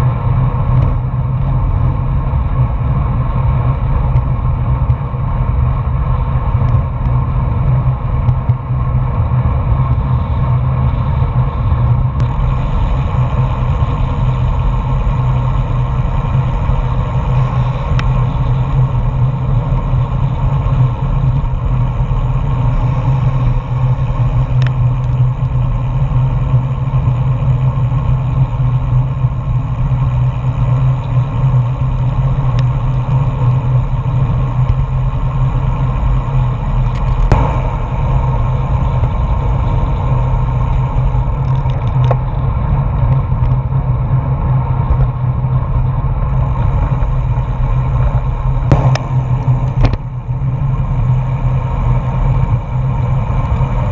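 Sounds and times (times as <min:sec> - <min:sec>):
bicycle road noise: 0:00.0 - 0:53.9
wind rush on microphone: 0:00.0 - 0:53.9.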